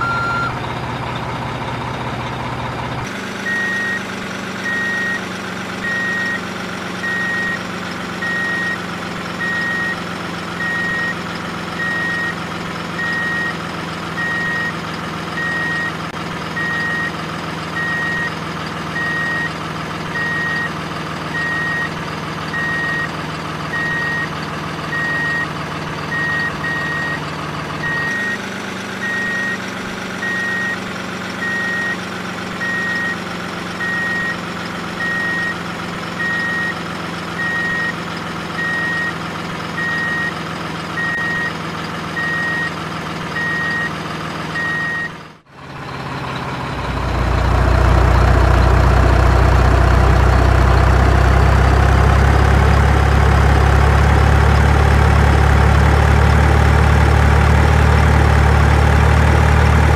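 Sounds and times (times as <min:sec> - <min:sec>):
truck reversing alarm beeping: 0:00.0 - 0:00.6, 0:03.4 - 0:59.9
truck engine humming: 0:00.0 - 0:59.9.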